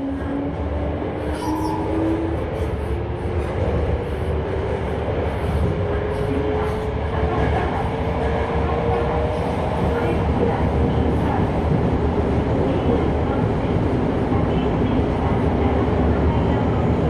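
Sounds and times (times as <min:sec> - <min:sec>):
wheels rumbling in tunnel: 0:00.0 - 0:17.0.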